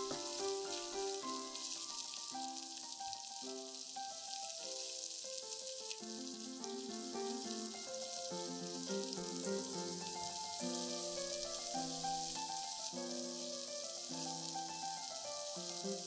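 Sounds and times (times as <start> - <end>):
background music: 0.0 - 16.0
food sizzling in a frying pan: 0.0 - 16.0.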